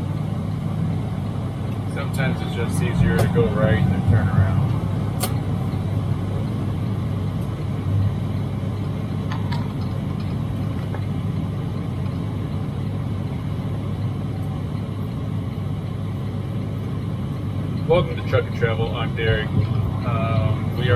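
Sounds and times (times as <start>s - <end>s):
diesel truck engine drone: 0.0s - 20.9s
road noise: 0.0s - 20.9s.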